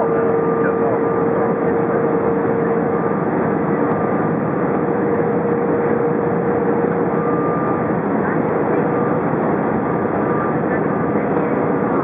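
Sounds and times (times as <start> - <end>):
airliner cabin engine roar: 0.0 - 12.0.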